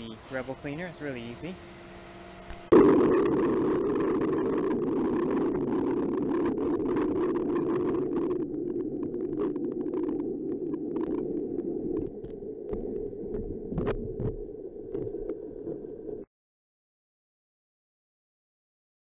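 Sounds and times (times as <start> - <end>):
underwater pool cleaner rumble: 0.2 - 16.2.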